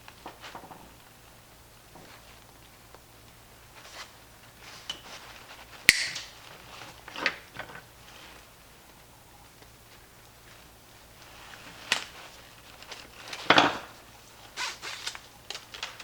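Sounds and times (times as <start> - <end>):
plastic fan handling rustling: 0.0 - 8.8, 9.6 - 16.0.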